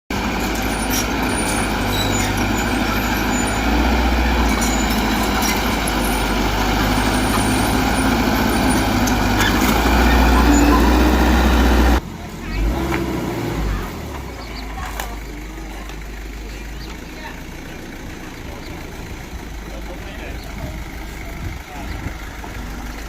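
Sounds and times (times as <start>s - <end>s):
heavy machine engine running: 0.1s - 23.0s.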